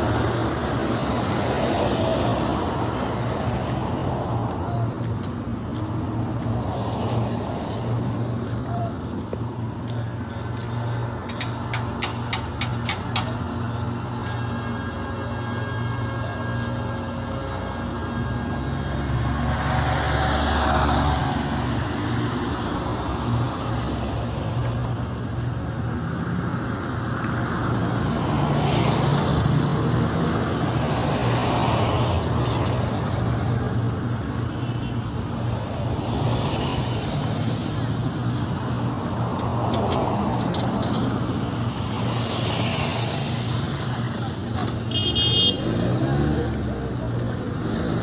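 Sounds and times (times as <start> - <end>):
traffic wash: 0.0 - 48.0
vehicle engine hum: 0.0 - 48.0.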